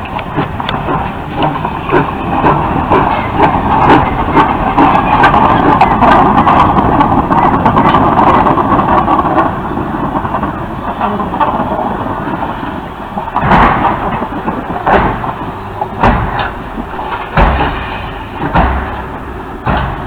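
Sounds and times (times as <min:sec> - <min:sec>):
steam train clacking: 0:00.0 - 0:20.0
train rushing noise: 0:00.0 - 0:20.0.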